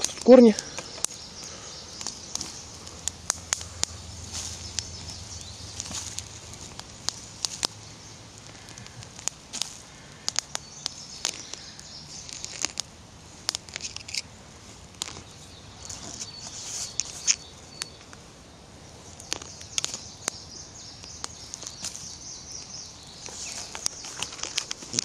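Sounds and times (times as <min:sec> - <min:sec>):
campfire crackling with pops: 0:00.0 - 0:25.0.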